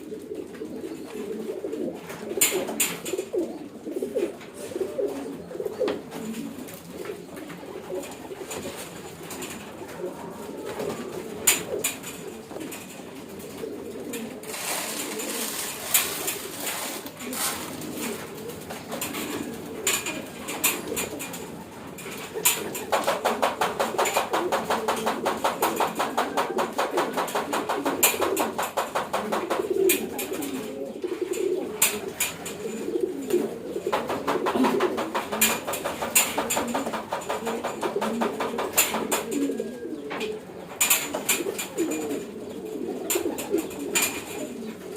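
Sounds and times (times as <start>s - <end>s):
pigeons cooing: 0.0s - 44.9s.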